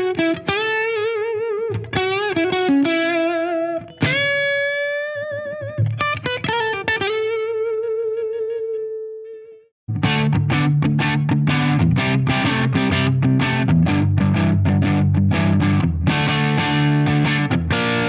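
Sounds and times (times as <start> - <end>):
overdriven electric guitar lead: 0.0 - 18.0.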